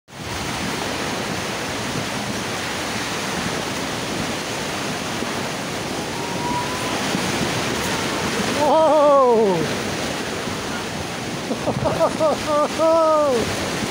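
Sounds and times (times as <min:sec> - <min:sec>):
rain and wind on tent fabric: 0:00.1 - 0:13.9.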